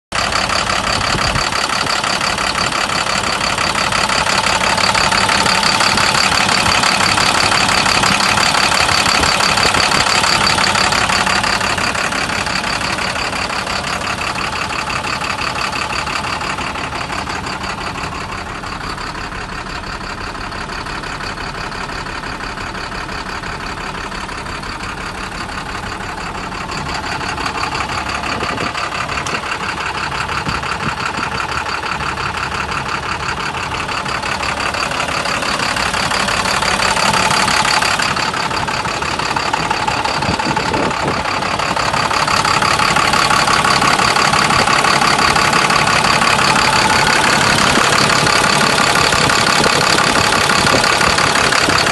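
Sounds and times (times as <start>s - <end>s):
truck engine idling: 0.1s - 51.9s.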